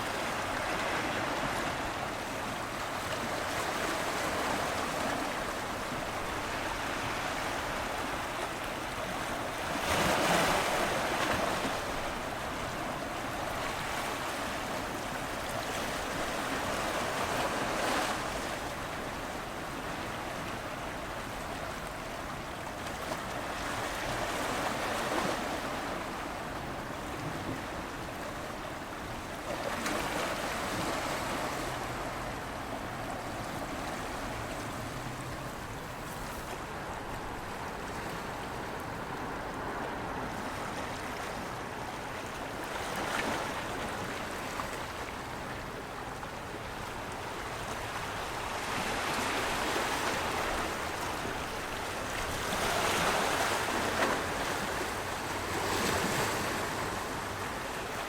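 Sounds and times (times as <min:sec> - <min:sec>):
waves washing in: 0:00.0 - 0:58.0.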